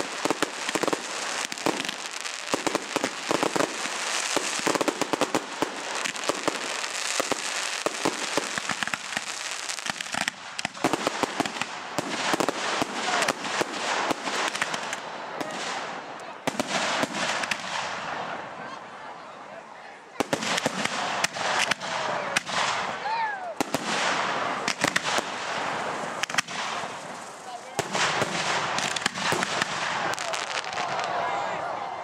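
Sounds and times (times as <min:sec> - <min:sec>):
fireworks cracking and popping: 0:00.0 - 0:18.4, 0:20.2 - 0:31.2
loud firework bangs: 0:00.0 - 0:18.4, 0:20.2 - 0:23.0, 0:23.6 - 0:31.2.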